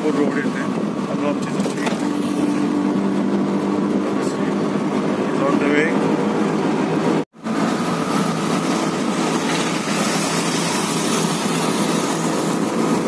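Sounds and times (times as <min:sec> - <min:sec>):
auto-rickshaw engine drone: 0:00.0 - 0:13.0
road noise: 0:00.0 - 0:13.0.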